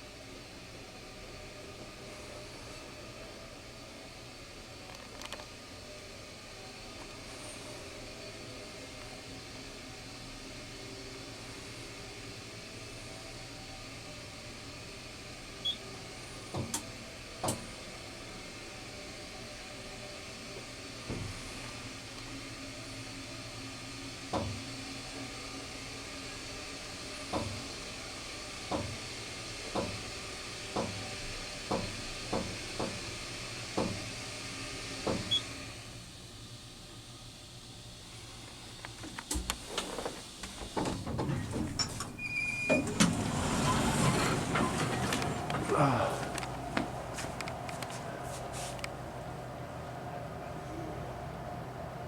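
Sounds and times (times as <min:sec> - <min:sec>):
elevator hum and hiss: 0:00.0 - 0:52.0.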